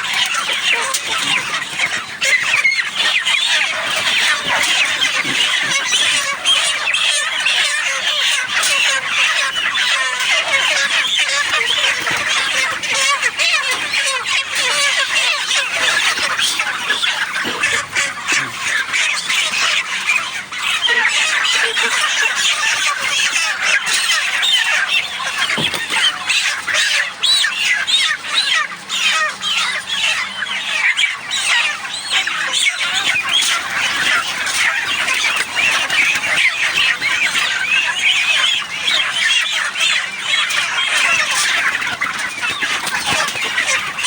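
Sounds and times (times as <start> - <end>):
chicks peeping and chirping: 0.0 - 44.0.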